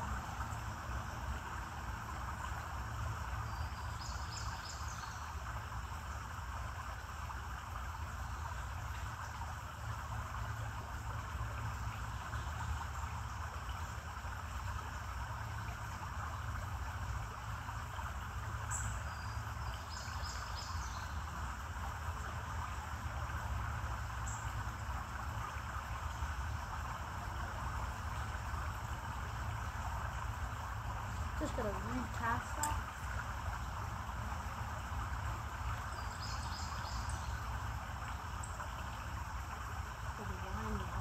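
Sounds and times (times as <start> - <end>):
creek hiss: 0.0 - 41.0.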